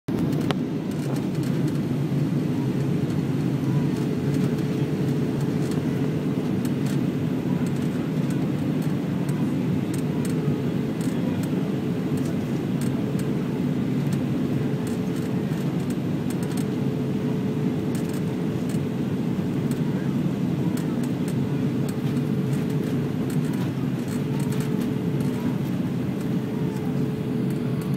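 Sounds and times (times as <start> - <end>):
aircraft engines and airflow roar: 0.1 - 27.9
faint steady hum: 0.1 - 27.9.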